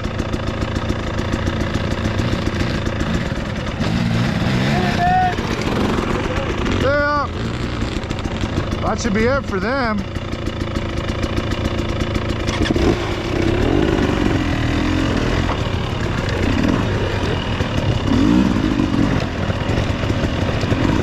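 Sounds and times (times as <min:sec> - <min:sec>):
off-road motorcycle engine revving: 0:00.0 - 0:21.0.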